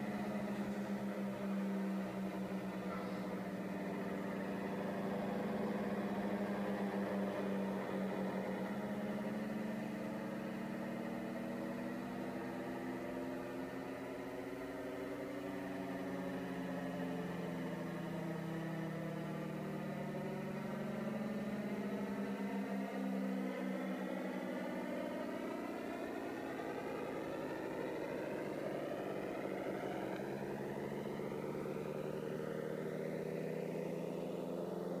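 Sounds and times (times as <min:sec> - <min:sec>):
synthesised engine-like drone: 0:00.0 - 0:35.0.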